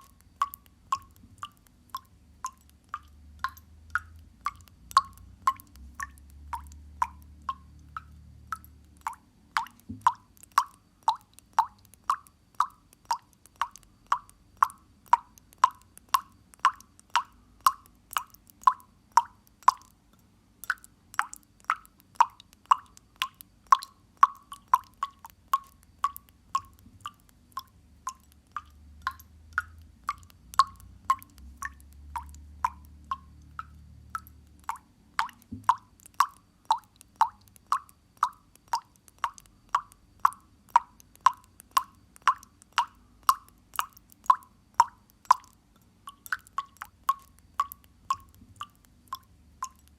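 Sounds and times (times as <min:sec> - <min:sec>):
water dripping: 0:00.0 - 0:49.9.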